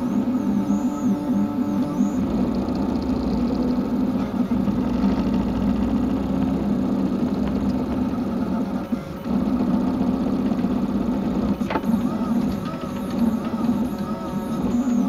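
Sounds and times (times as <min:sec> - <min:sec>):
printer motor hum: 0:00.0 - 0:15.0.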